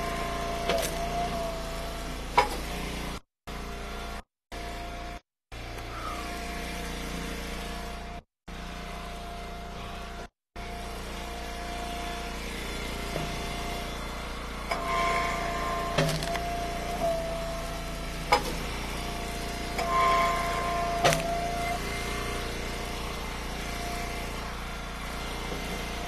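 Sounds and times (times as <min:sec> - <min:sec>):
log splitter running: 0:00.0 - 0:26.0.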